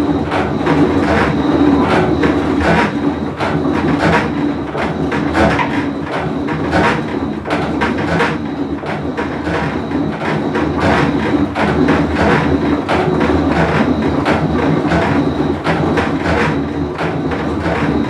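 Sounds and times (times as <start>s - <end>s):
washing machine rumbling: 0.0s - 18.0s.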